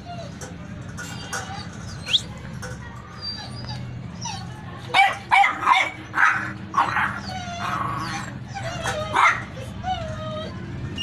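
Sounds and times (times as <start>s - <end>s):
puppies barking: 0.0s - 11.0s.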